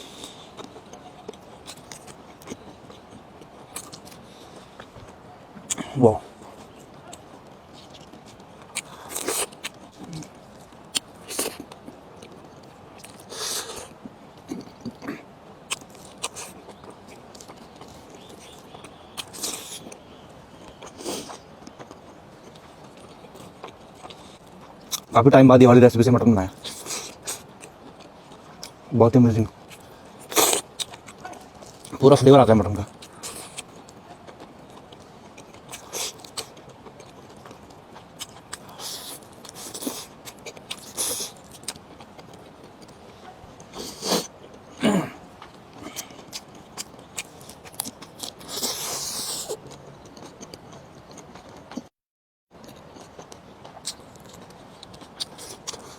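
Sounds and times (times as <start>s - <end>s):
person chewing: 0.0s - 25.1s, 26.5s - 28.8s, 29.5s - 32.2s, 32.8s - 51.9s, 52.6s - 55.9s.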